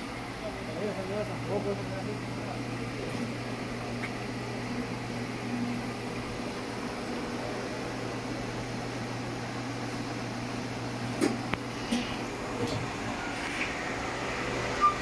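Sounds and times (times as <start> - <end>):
machining centre humming: 0.0 - 15.0.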